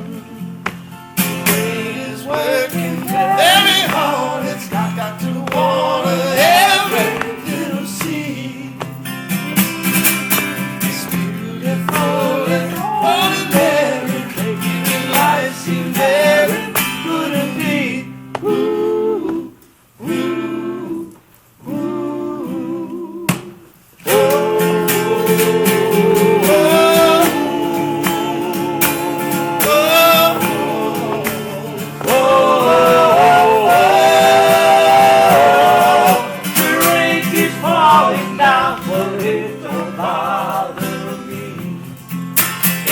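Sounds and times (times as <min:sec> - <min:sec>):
guitar: 0:00.0 - 0:42.9
person singing wordlessly: 0:01.3 - 0:09.8, 0:10.8 - 0:41.6.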